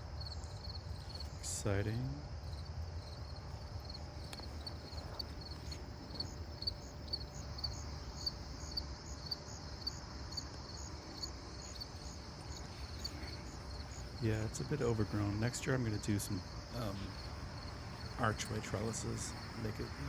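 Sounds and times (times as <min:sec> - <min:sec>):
higher-pitched insect chirps: 0:00.0 - 0:20.0
insects chirping: 0:00.0 - 0:20.0.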